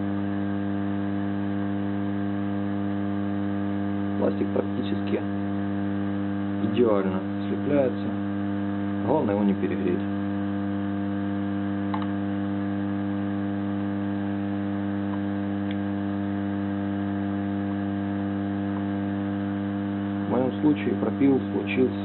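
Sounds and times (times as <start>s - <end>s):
hot-air soldering station hum: 0.0s - 22.0s.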